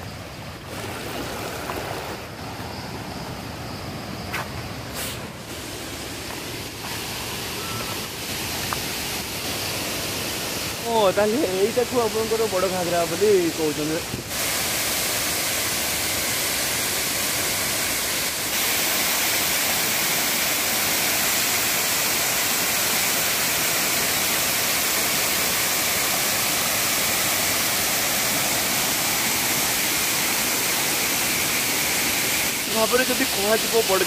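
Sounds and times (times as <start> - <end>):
waterfall rushing: 5.2 - 34.0.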